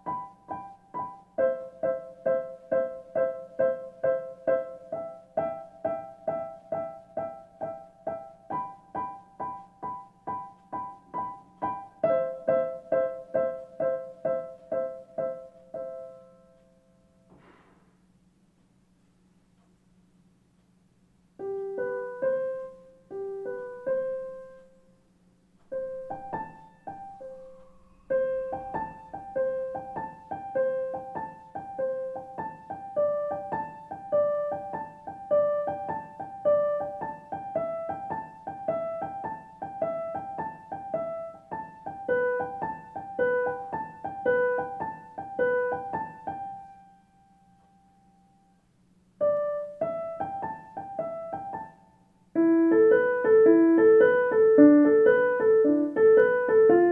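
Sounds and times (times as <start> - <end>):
gentle piano melody: 0.0 - 17.3, 21.3 - 56.9.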